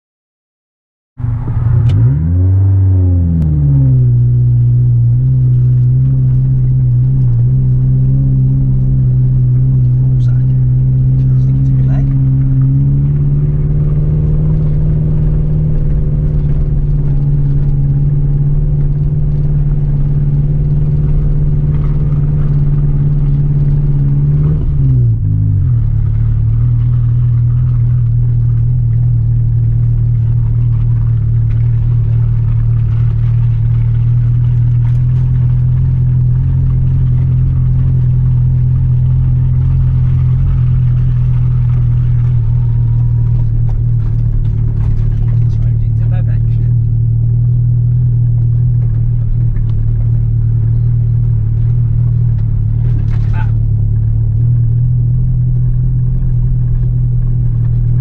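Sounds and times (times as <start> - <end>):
car engine droning: 1.2 - 58.0.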